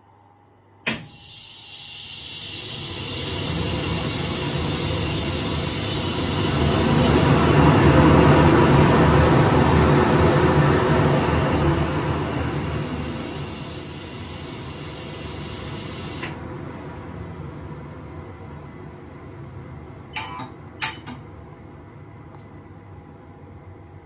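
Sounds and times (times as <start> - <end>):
fan rushing air with low rumble: 2.2 - 24.0.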